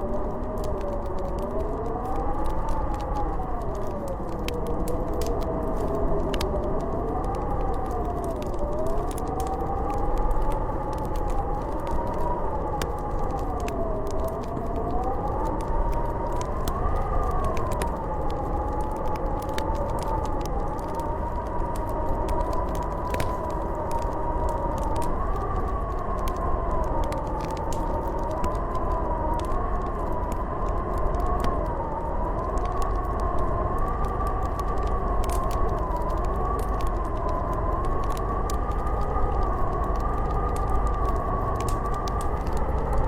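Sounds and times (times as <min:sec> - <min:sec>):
howling wind: 0:00.0 - 0:43.0
wood fire crackling: 0:00.0 - 0:43.0.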